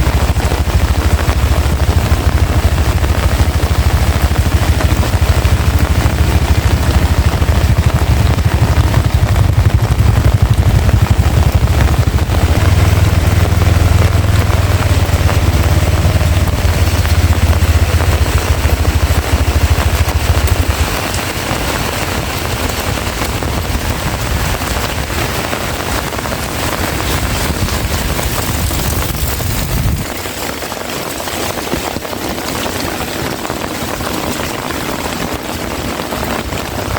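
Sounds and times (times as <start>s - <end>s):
heavy rain pouring: 0.0s - 36.9s
low wind rumble: 0.0s - 36.9s.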